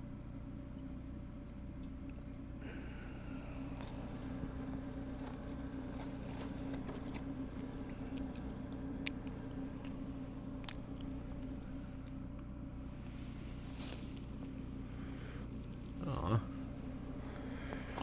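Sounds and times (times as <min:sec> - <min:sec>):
generator humming: 0:00.0 - 0:18.0.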